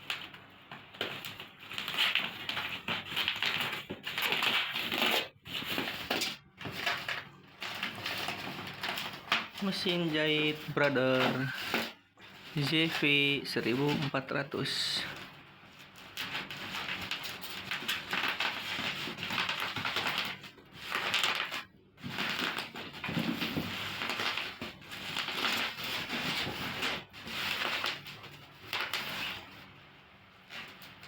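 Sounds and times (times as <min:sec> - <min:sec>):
packaging rustling and crinkling: 0:00.0 - 0:31.0.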